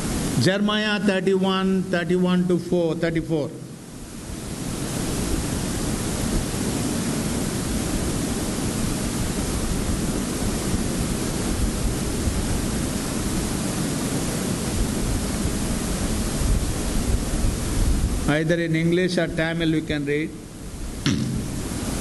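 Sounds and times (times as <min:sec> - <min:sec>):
loud rushing hiss: 0:03.4 - 0:22.0.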